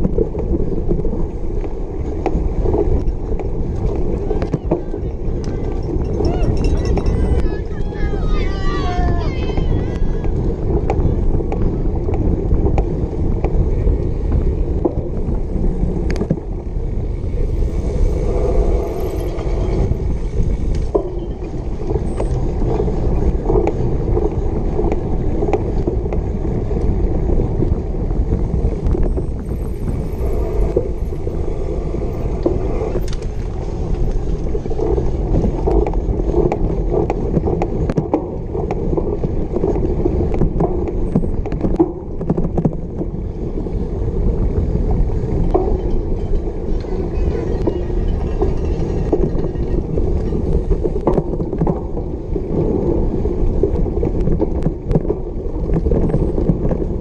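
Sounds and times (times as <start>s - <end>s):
bike rattling and clicking: 0.0s - 57.0s
knobby tyres rumbling on grass: 0.0s - 57.0s
wind on microphone: 0.0s - 57.0s.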